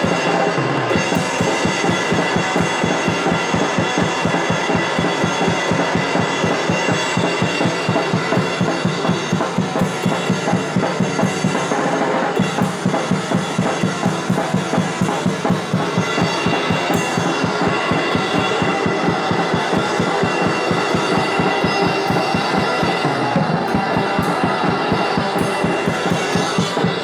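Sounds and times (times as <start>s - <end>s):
amplified electric guitar: 0.0s - 27.0s
drum kit beat: 0.0s - 27.0s.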